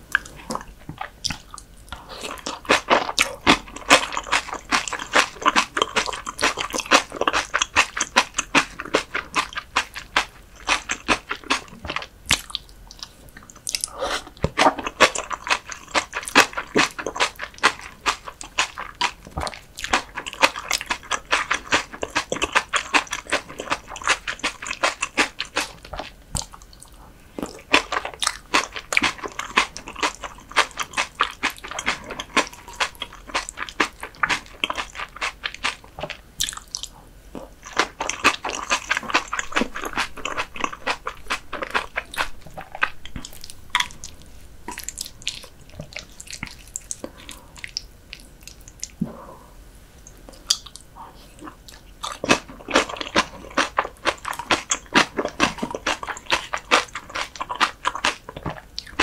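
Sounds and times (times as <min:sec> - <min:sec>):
wet crunchy chewing: 0:00.1 - 0:49.1, 0:50.1 - 0:59.0.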